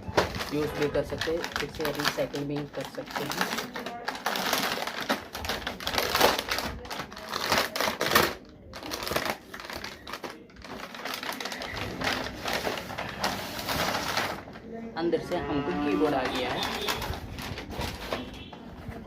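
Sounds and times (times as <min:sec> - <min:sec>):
parcel packaging rustling: 0:00.0 - 0:14.8, 0:15.7 - 0:19.0.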